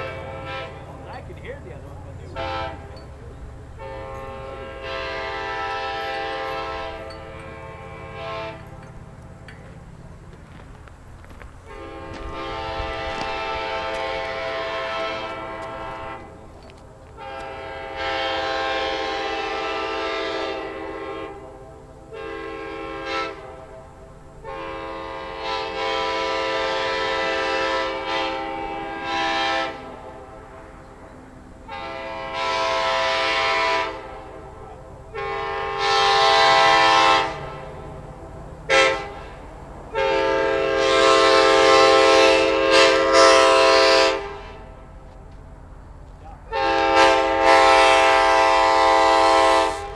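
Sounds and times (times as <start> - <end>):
locomotive air horn blasts: 0.0 - 9.1, 11.6 - 16.6, 17.2 - 45.0, 46.4 - 49.9.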